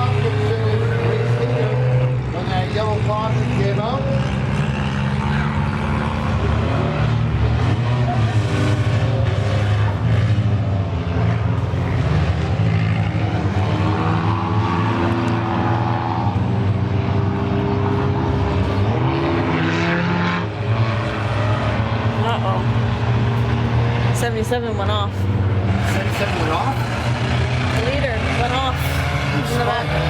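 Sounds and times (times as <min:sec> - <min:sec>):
race car engines droning: 0:00.0 - 0:30.0.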